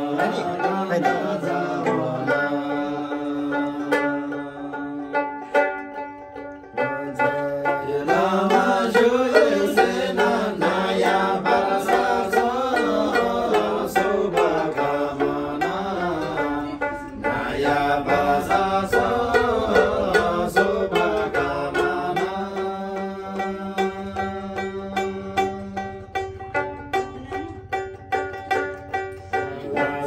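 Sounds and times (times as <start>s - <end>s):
men singing together: 0.0s - 5.3s, 6.8s - 26.3s, 29.3s - 30.0s
plucked lutes: 0.0s - 30.0s.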